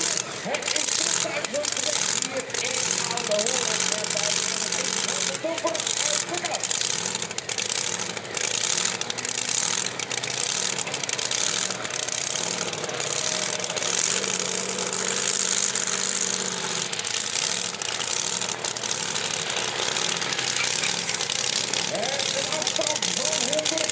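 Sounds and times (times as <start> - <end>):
tractor engine running loud: 0.0 - 23.9.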